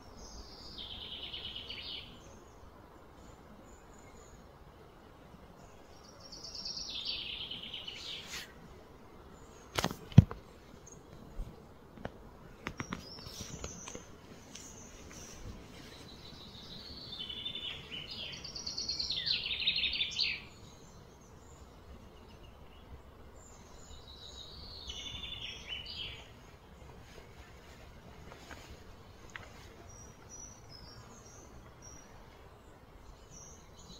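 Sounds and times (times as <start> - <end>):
low outdoor background: 0.0 - 33.9.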